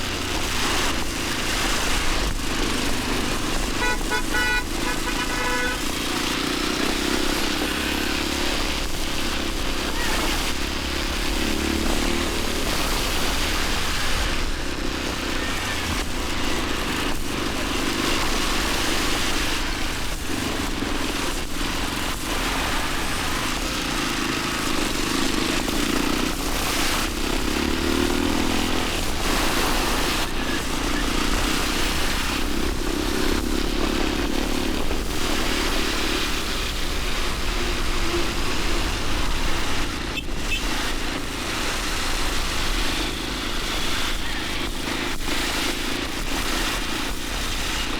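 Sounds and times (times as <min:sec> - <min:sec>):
motorcycle engine running: 0:00.0 - 0:47.9
wind rushing on microphone: 0:00.0 - 0:47.9.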